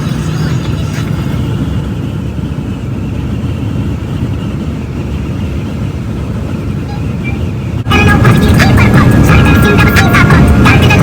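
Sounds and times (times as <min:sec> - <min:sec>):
road noise: 0:00.0 - 0:11.0
truck engine rumble: 0:00.0 - 0:11.0.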